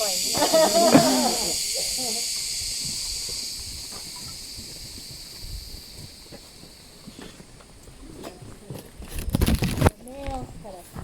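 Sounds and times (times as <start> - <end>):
high insect chorus: 0.0 - 9.9.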